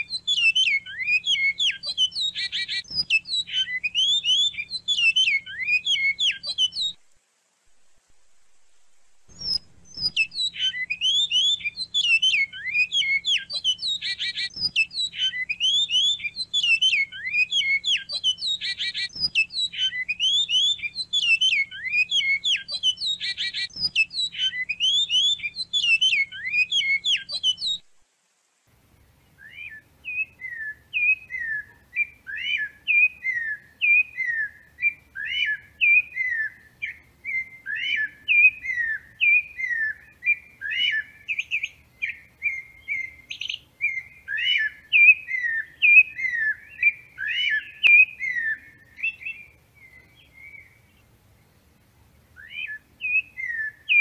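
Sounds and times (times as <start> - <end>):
bird twittering song: 0.0 - 7.0, 9.3 - 28.0, 29.2 - 51.7, 52.3 - 54.0.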